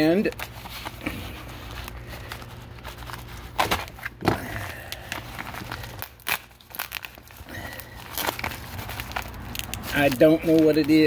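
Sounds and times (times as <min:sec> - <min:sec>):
plastic bubble mailer crinkling: 0:00.0 - 0:11.0.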